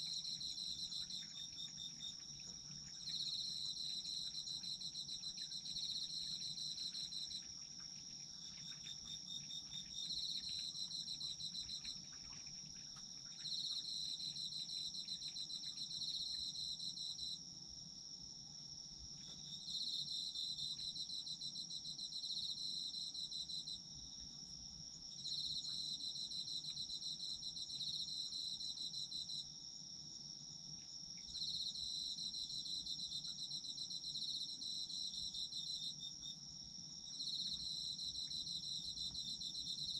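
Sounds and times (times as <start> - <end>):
cricket pulsed high chirp: 0.0 - 39.9
cricket steady high trill: 0.0 - 39.9.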